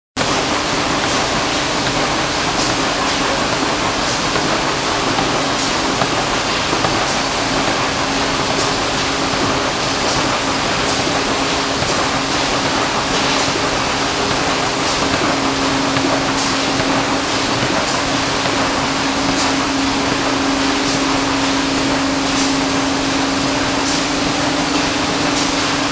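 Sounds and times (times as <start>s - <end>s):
printing machine running: 0.2s - 25.9s.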